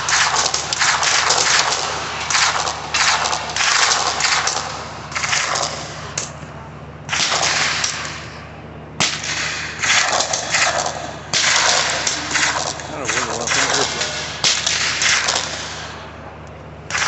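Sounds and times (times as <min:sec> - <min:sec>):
suppressed gunshots: 0:00.0 - 0:06.4, 0:07.1 - 0:08.4, 0:09.0 - 0:16.2
sharp crack: 0:00.0 - 0:08.4, 0:09.0 - 0:16.2.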